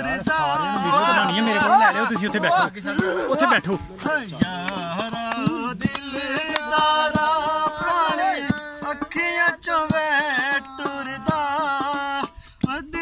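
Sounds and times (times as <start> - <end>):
hands drumming on metal pot: 0.0 - 12.8
man singing folk song: 0.0 - 13.0.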